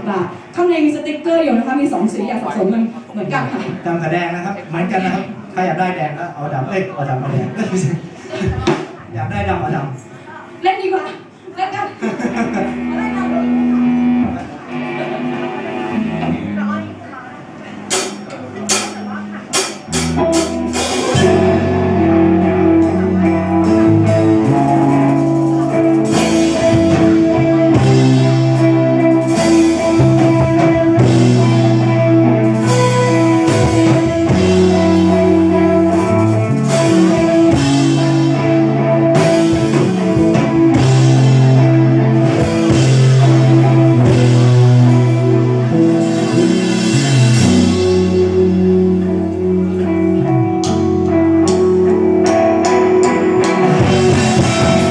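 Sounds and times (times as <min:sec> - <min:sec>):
live rock band playing: 0:10.4 - 0:54.9.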